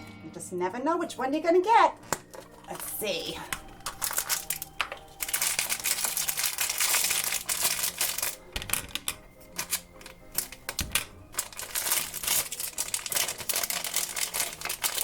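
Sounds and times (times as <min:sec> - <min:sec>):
foil bag crinkling: 0:02.2 - 0:15.0.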